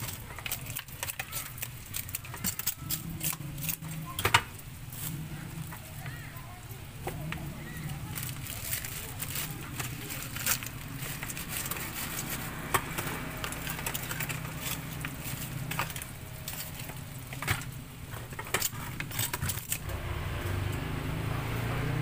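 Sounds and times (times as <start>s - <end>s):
plastic bag crinkling: 0.0s - 19.9s.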